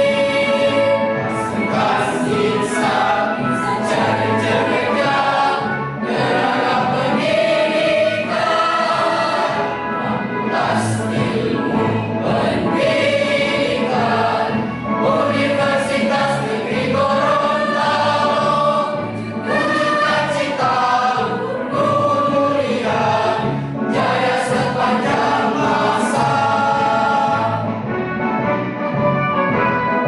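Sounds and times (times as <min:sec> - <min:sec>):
mixed choir singing: 0:00.0 - 0:27.8.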